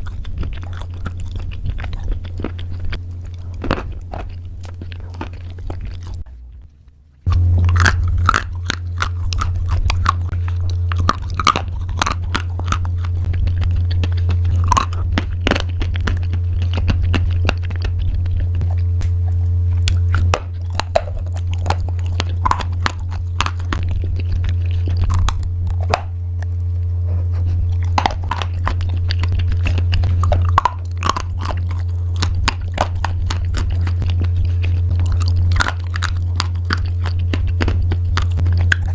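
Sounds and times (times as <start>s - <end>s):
chewing crunchy food: 0.0s - 38.9s
low hum: 0.0s - 38.9s.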